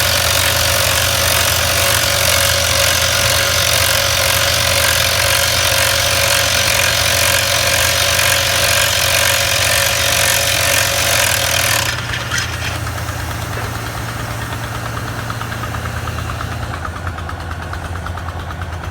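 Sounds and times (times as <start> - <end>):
engine running steadily: 0.0 - 18.9
rock drill hammering: 0.0 - 18.9.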